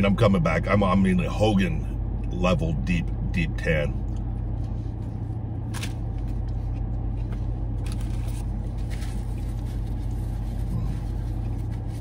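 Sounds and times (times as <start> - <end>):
air-conditioning blower: 0.0 - 12.0
car engine idling: 0.0 - 12.0.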